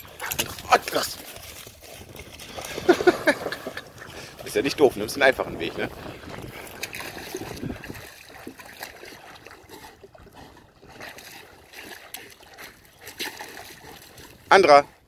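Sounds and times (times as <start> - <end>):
dog swimming splashing water: 0.0 - 15.0.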